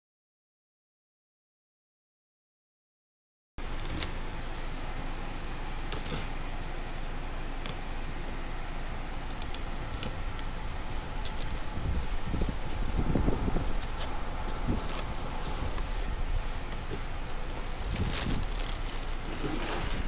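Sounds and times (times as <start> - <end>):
steady low hum: 3.6 - 20.0.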